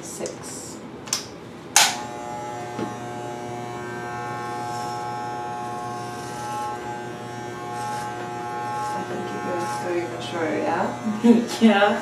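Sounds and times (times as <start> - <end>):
electric hair clippers buzzing: 1.8 - 12.0.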